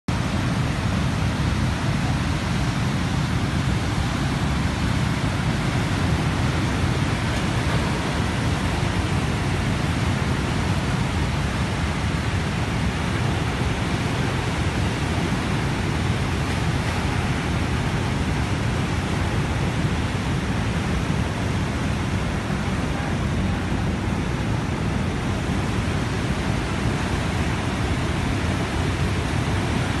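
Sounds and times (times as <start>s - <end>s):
water rushing over waterfall: 0.1s - 30.0s.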